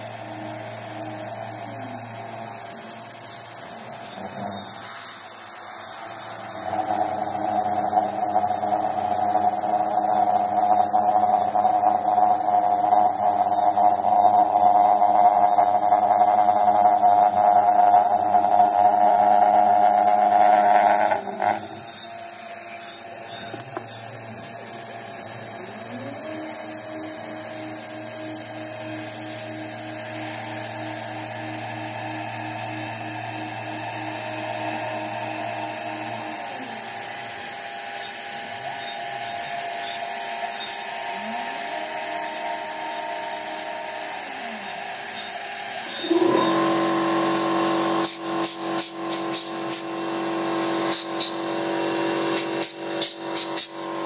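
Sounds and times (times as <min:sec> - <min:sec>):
end mill cutting plastic: 0:00.0 - 0:54.0
milling machine motor humming: 0:00.0 - 0:54.0.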